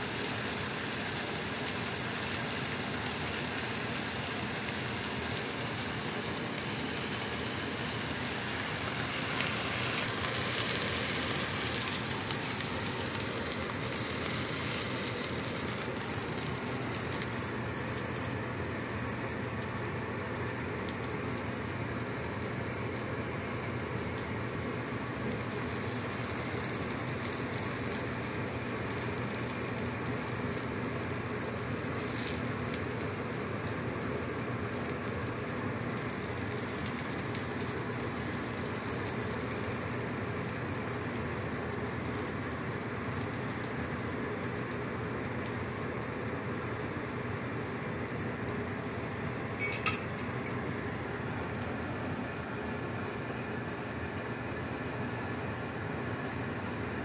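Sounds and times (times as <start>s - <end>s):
oil sizzling in a pan: 0.0s - 53.2s.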